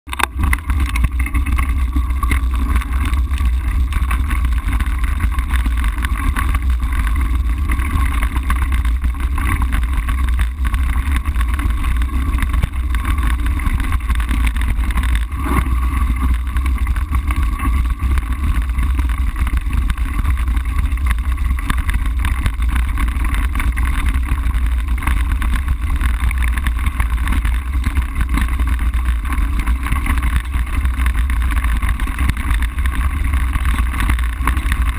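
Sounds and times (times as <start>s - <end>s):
tyres rolling over loose stones: 0.1s - 34.9s.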